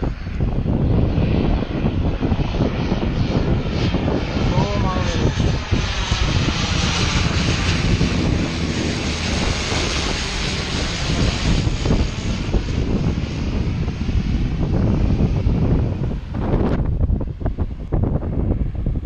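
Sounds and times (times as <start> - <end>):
airliner passing overhead: 0.0 - 19.0.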